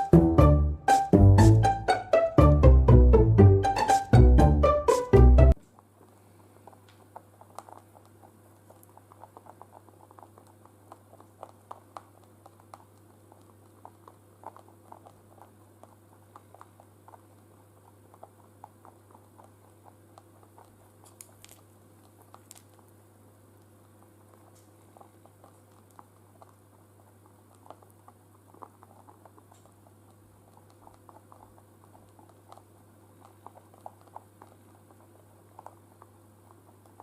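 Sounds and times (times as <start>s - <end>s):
rabbits tapping and scratching: 5.6s - 23.0s, 23.6s - 37.0s.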